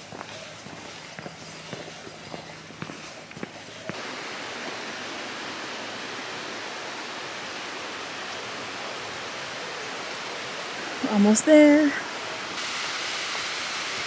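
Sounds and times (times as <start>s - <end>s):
fast-flowing water rushing: 1.7s - 14.0s.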